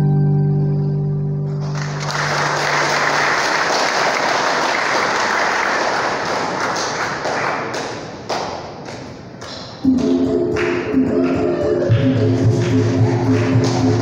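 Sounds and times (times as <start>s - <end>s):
crowd applauding: 1.5s - 9.7s, 10.6s - 14.0s.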